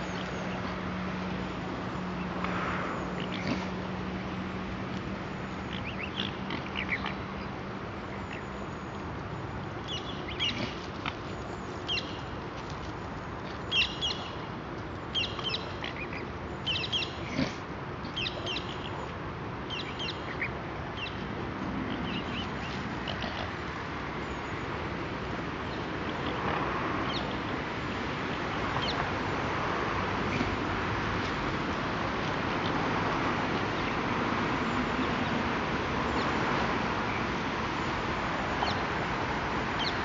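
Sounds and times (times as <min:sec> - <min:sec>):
steady outdoor hiss: 0:00.0 - 0:40.0.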